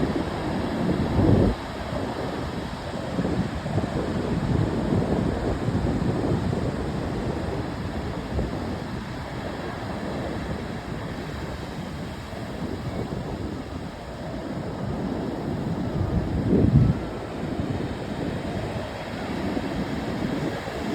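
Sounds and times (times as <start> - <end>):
ocean surf washing on shore: 0.0 - 20.9
wind buffeting microphone: 0.0 - 20.9.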